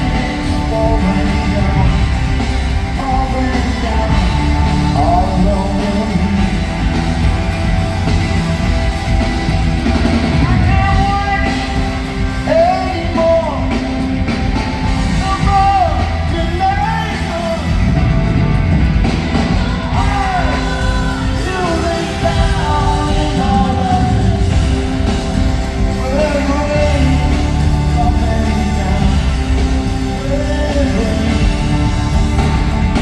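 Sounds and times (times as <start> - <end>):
person singing: 0.0 - 18.4, 19.0 - 33.0
live rock band playing: 0.0 - 33.0.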